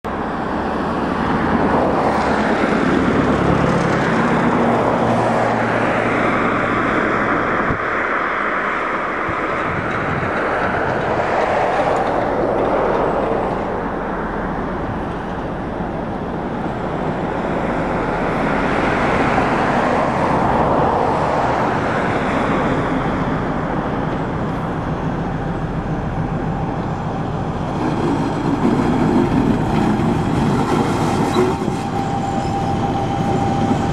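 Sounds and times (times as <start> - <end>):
diesel locomotive engine running: 0.1 - 33.9.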